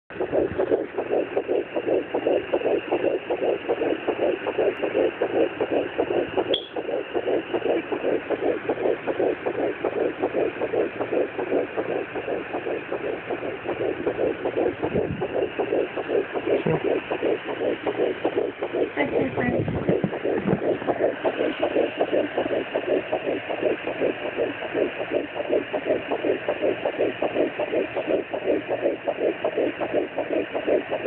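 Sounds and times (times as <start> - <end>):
fetal heartbeat whooshing pulses: 0.1 - 31.0.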